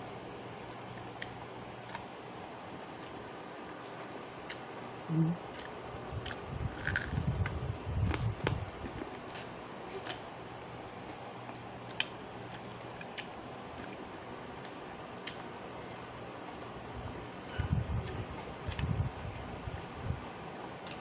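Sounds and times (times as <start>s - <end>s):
electric desk fan humming: 0.0s - 21.0s
chewing and biting food: 0.8s - 10.2s, 10.9s - 21.0s.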